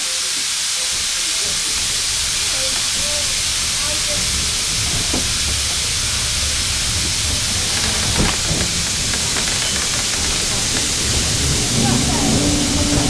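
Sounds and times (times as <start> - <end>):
steam train hissing and rumbling: 0.0 - 13.0.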